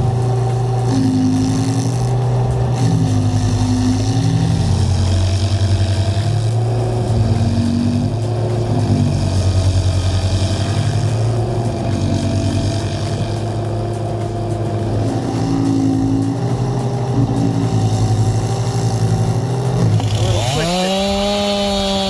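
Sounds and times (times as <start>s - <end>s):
chainsaw revving: 0.0s - 22.0s
engine running steadily: 0.0s - 22.0s.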